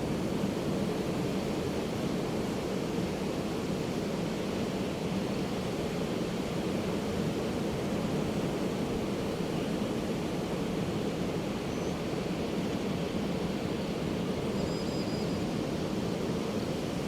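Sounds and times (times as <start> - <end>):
ocean waves washing onto beach: 0.0 - 14.6, 15.4 - 17.0.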